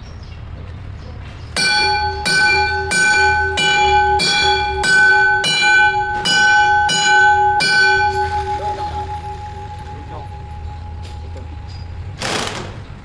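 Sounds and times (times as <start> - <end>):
hammer striking steel with ringing: 1.6 - 12.4.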